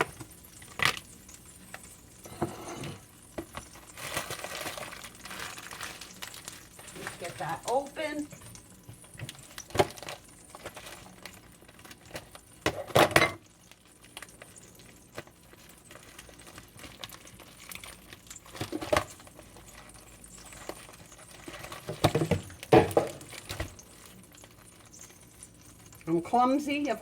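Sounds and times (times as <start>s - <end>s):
plastic package crinkling: 3.5s - 12.6s, 13.4s - 26.1s.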